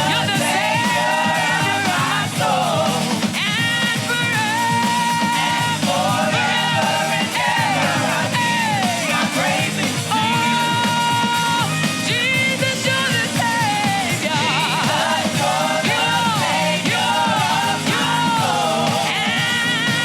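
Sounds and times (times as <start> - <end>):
band playing gospel music: 0.0 - 20.0
person singing: 0.0 - 20.0.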